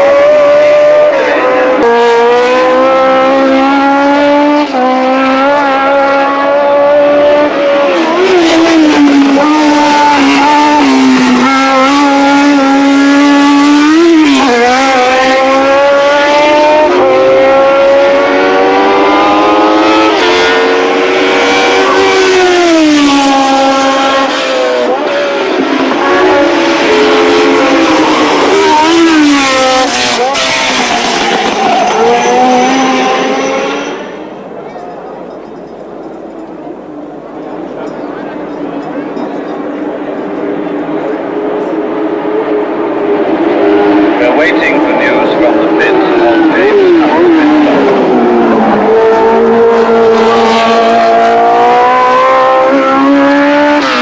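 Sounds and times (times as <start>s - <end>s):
racing car engines at high revs: 0.0s - 54.0s.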